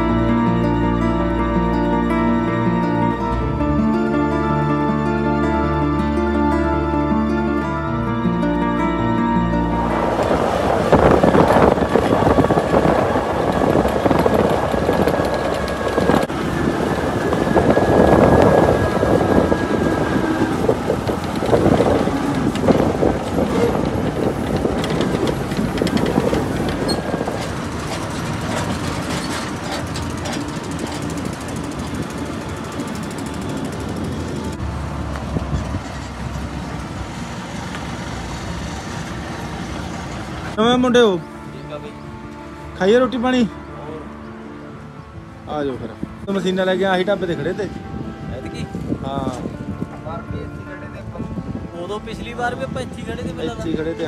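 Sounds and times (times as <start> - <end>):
heavy vehicle engine running: 0.0 - 50.0
road rumble: 0.0 - 54.0
vehicle rattling: 0.0 - 54.0.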